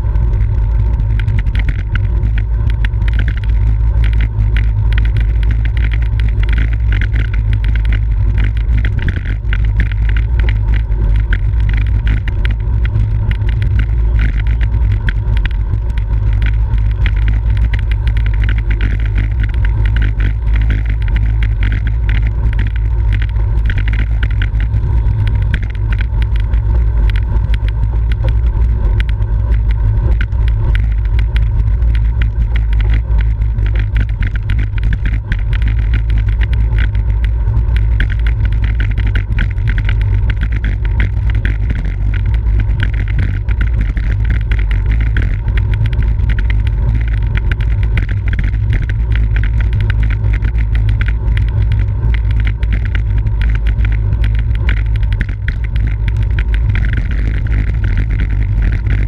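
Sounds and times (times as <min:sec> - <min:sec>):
crackle of small clicks: 0:00.0 - 0:59.0
wind rumble on microphone: 0:00.0 - 0:59.0.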